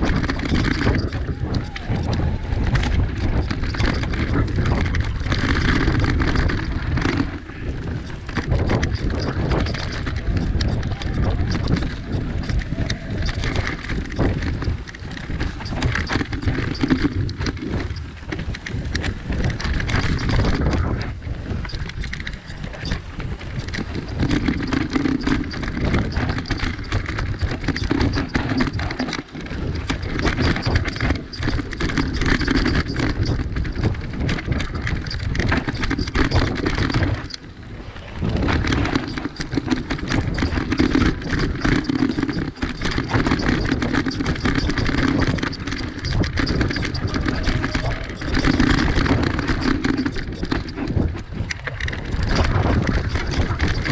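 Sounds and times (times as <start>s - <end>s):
bike rattling and knocking: 0.0s - 53.9s
bike tyres on dirt: 0.0s - 53.9s.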